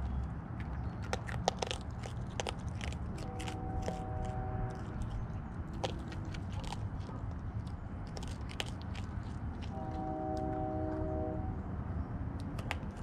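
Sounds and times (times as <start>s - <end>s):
raccoon crunching kibble: 0.0s - 11.1s, 12.4s - 13.0s.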